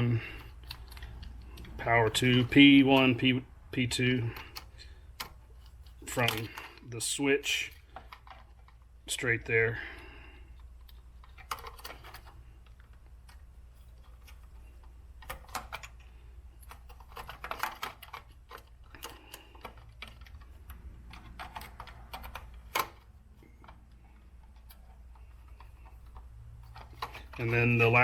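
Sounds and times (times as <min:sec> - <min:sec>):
wires and connectors clicking: 0:00.0 - 0:09.2, 0:10.4 - 0:28.0.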